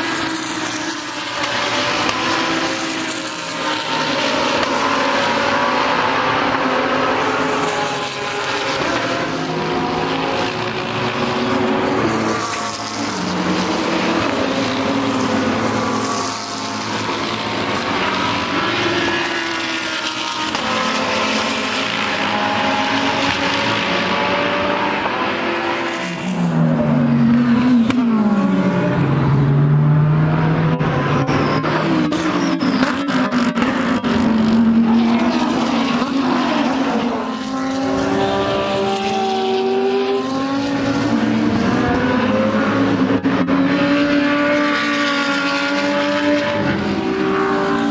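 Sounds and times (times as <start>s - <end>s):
race car engines passing: 0.0s - 47.9s.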